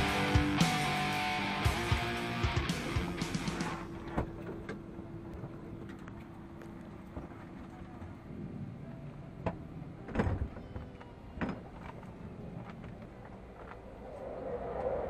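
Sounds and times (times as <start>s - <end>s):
airliner cabin hum: 2.3s - 15.0s.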